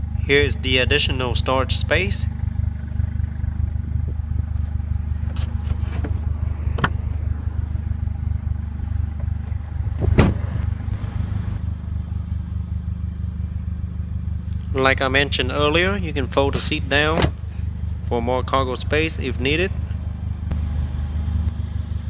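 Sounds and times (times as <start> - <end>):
engine knocks: 0.0 - 21.7
car engine idling: 0.0 - 22.0.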